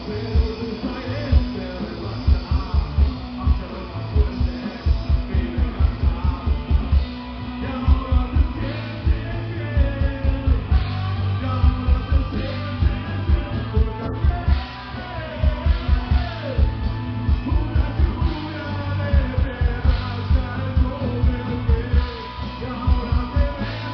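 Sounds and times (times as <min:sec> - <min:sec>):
bass guitar: 0:00.0 - 0:23.9
distorted electric guitar: 0:00.0 - 0:23.9
drum kit with rapid kick drum: 0:00.0 - 0:23.9.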